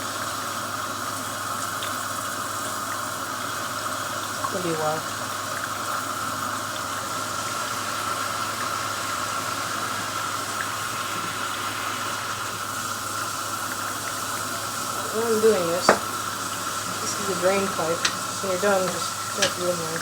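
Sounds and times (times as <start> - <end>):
water running into tub: 0.0 - 20.0.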